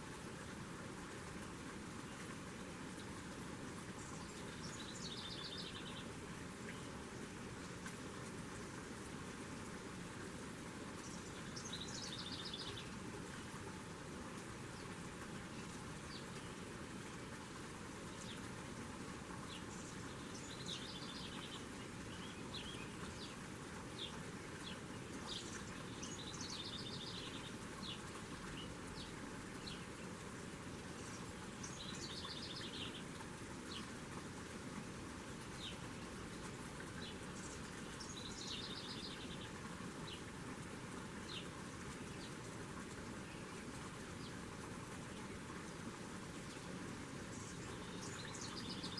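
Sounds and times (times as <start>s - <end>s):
steady background hiss: 0.0s - 48.9s.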